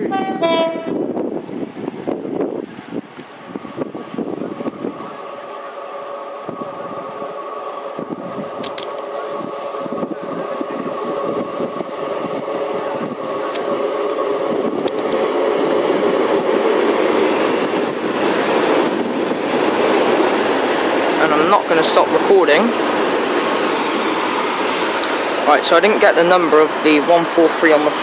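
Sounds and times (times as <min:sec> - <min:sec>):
diesel train high whine: 0:00.0 - 0:28.0
train rail noise: 0:00.0 - 0:28.0.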